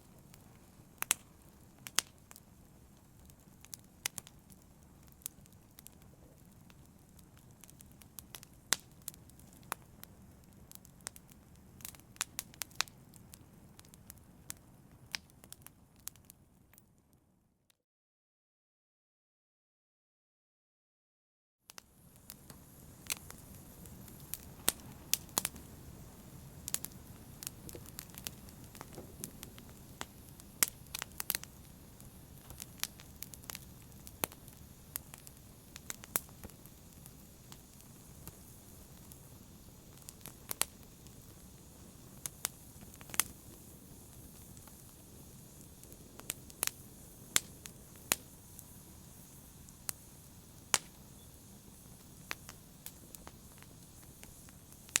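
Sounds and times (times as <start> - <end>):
wood fire crackling and popping: 0.0 - 16.8, 21.7 - 55.0.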